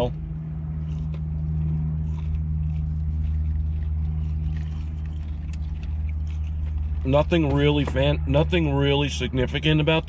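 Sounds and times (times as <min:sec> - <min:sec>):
faint chewing: 0:00.0 - 0:09.9
car engine idling hum: 0:00.0 - 0:10.0.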